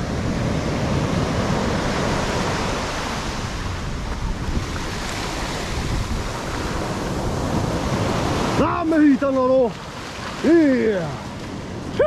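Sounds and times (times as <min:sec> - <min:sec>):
surf breaking on a beach: 0:00.0 - 0:12.0
wind rumbling on microphone: 0:00.0 - 0:12.0.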